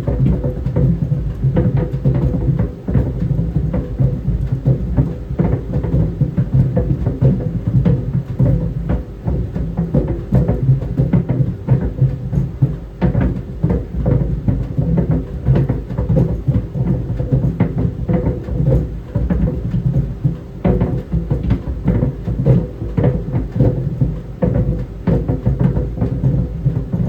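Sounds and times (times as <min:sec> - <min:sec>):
balls knocking in dryer drum: 0:00.0 - 0:27.0.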